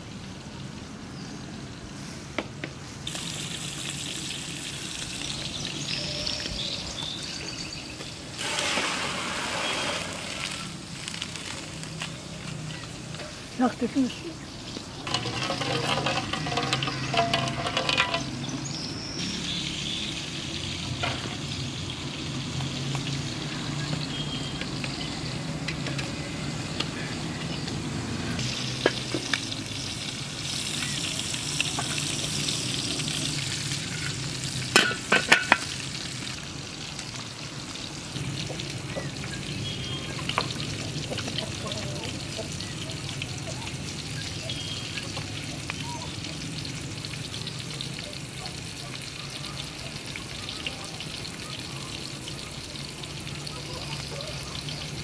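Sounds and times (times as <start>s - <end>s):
pot boiling and sizzling: 0.0s - 55.0s
campfire crackling: 3.0s - 55.0s.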